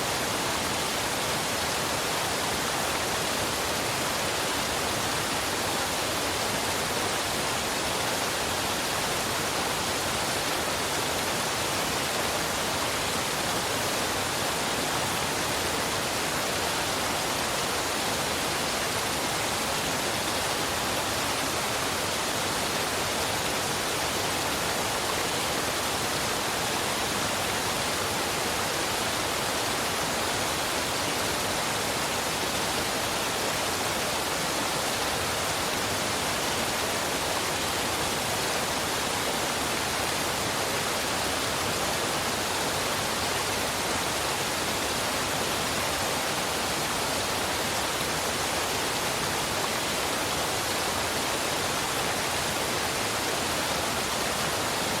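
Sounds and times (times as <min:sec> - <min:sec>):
waterfall and river rushing: 0:00.0 - 0:55.0.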